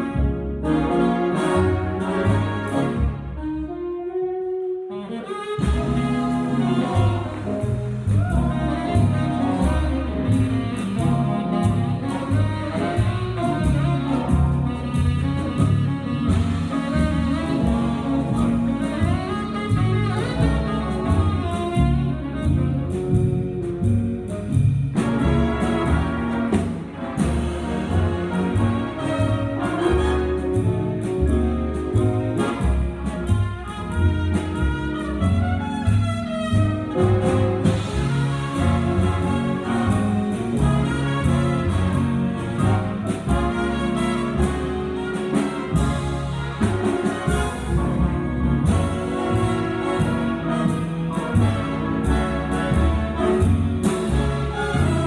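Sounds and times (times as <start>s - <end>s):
jazz big band playing: 0.0s - 55.0s
saxophone solo: 0.0s - 55.0s.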